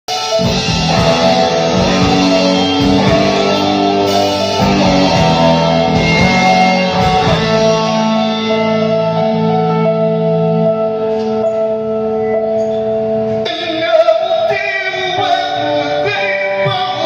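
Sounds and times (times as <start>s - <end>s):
electric guitar chords: 0.1s - 17.0s.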